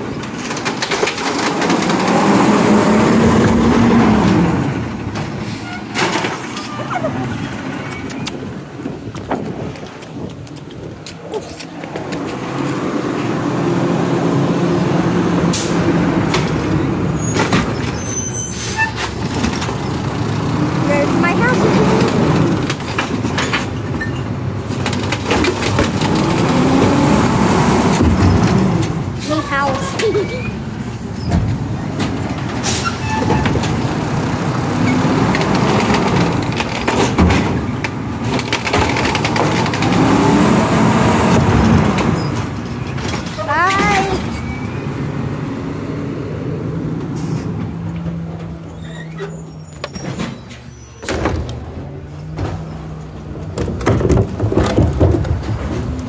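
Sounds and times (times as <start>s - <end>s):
garbage truck engine running: 0.0s - 7.7s, 12.8s - 56.0s.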